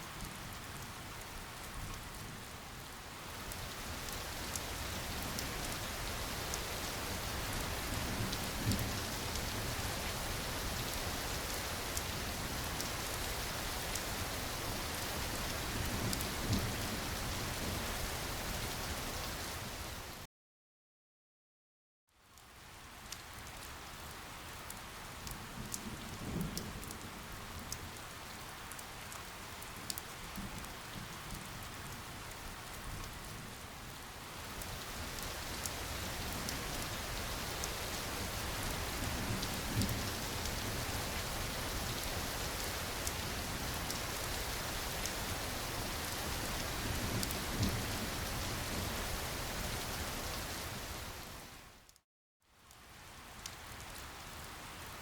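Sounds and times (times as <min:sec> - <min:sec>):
steady rain falling: 0:00.0 - 0:20.3, 0:22.1 - 0:55.0.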